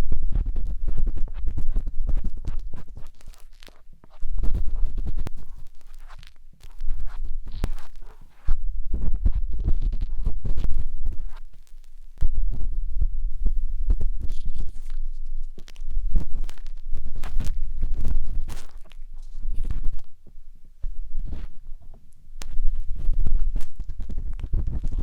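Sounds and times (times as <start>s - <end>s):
muffled thumps and rumble: 0.0s - 5.9s, 6.6s - 25.0s
matchsticks scratching on microphone: 0.1s - 12.3s, 13.9s - 20.1s, 20.8s - 25.0s.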